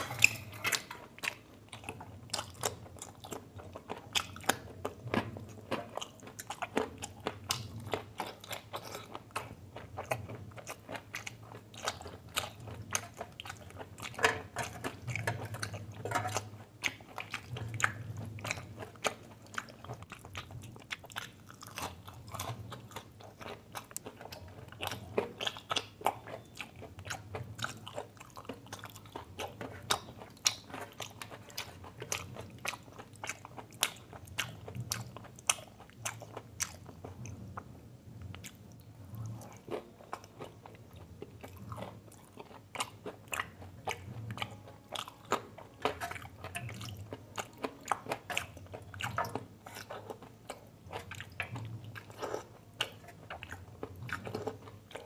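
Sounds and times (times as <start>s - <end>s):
person chewing with mouth clicks: 0.0s - 55.0s.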